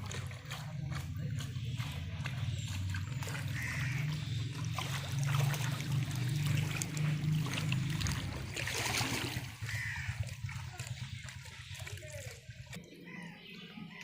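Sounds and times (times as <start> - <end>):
low engine hum: 0.0 - 12.8
shallow water splashing: 0.0 - 13.3.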